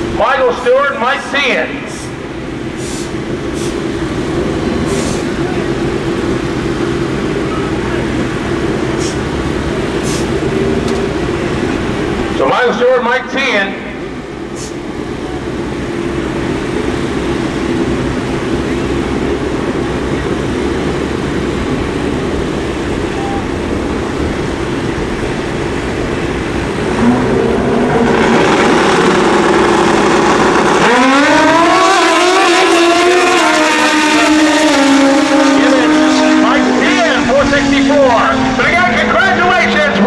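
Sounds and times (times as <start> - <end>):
drag motorcycle engines revving: 0.0 - 40.0.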